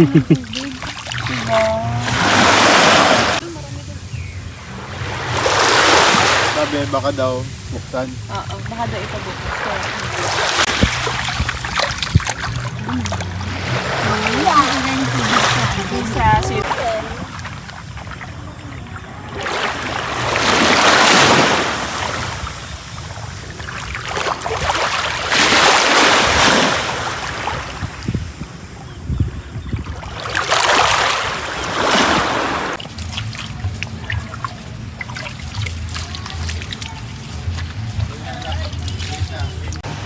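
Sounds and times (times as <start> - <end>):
sea waves breaking on a beach: 0.0 - 40.0.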